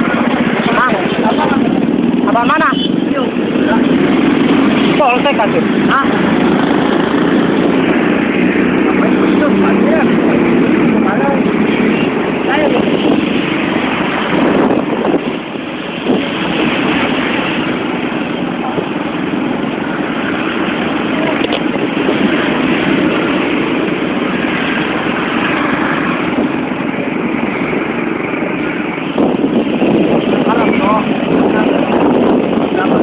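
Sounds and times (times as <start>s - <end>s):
vehicle rumble and wind noise: 0.0s - 33.0s.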